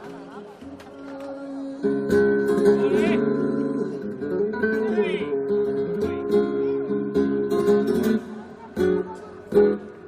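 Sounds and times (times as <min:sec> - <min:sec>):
flamenco guitar strumming chords: 0:00.0 - 0:10.0.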